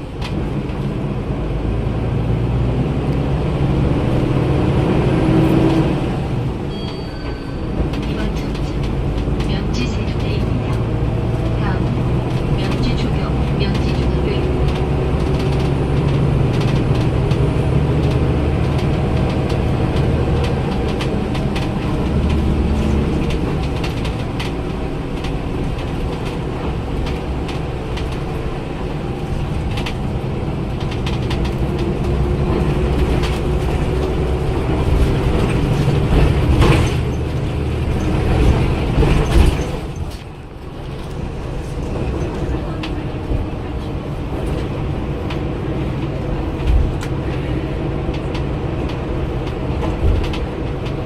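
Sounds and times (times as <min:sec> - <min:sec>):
bus diesel engine running: 0:00.0 - 0:51.0.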